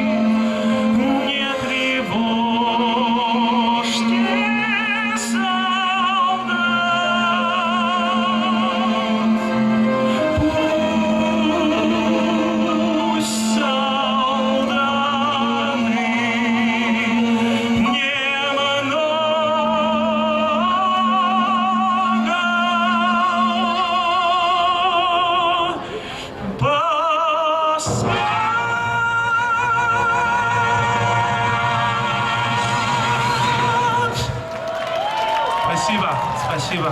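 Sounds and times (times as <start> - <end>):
musical accompaniment: 0.0 - 36.9
operatic singing with vibrato: 0.0 - 36.9.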